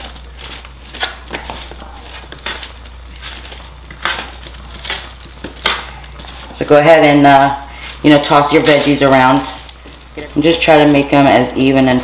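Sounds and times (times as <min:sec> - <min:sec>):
parchment paper rustling and crinkling: 0:00.0 - 0:12.0.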